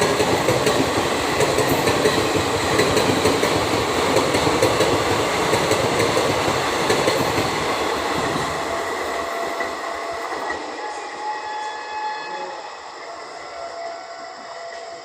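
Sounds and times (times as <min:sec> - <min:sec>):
train coaches rolling on rails: 0:00.0 - 0:15.0.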